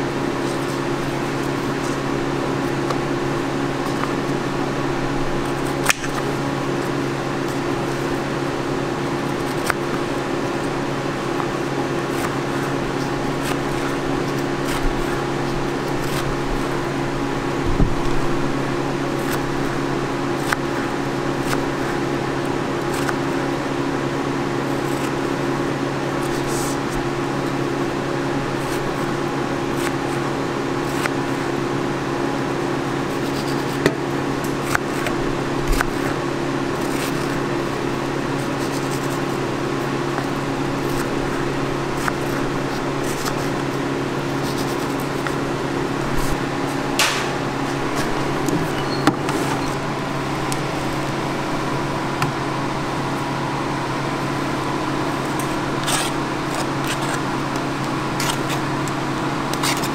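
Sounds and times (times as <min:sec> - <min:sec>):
kitchen machine hum: 0:00.0 - 0:59.9.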